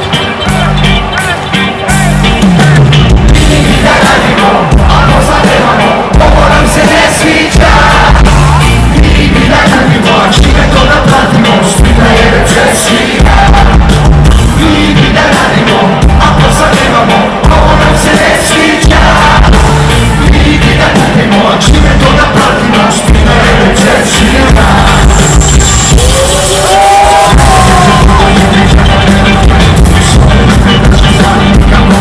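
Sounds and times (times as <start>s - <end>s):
live band playing amplified music: 0.0s - 32.0s
heavy pulsing bass: 1.8s - 32.0s
person singing: 3.2s - 32.0s.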